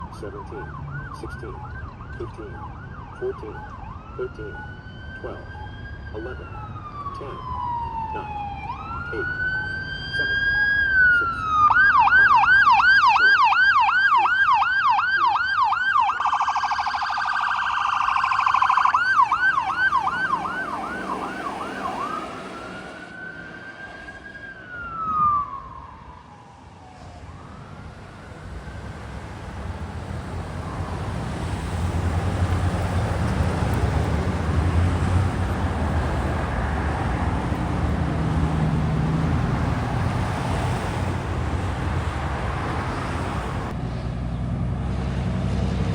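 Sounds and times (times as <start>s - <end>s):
ambulance siren yelp and wail: 0.0s - 43.8s
vehicle engine and road noise: 0.0s - 45.9s.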